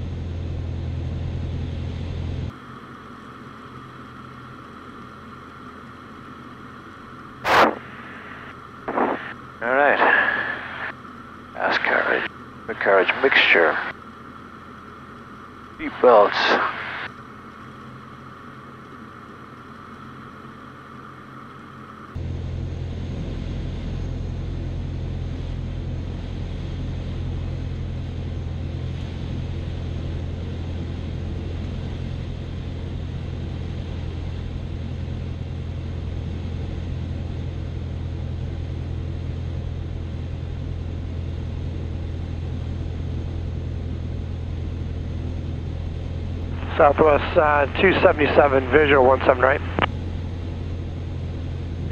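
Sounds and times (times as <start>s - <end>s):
propeller plane engine drone: 0.0s - 51.9s.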